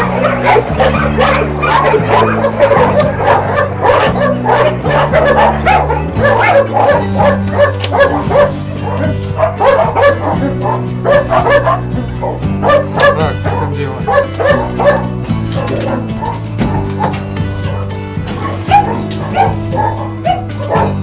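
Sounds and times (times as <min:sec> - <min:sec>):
dogs barking and yelping: 0:00.0 - 0:21.0
slow low chord music: 0:00.0 - 0:21.0.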